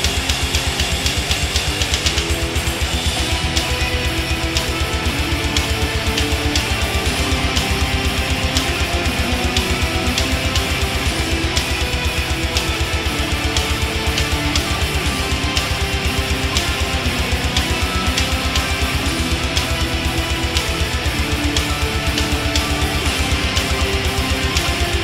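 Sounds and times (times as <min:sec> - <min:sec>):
guitar rock music: 0:00.0 - 0:25.0.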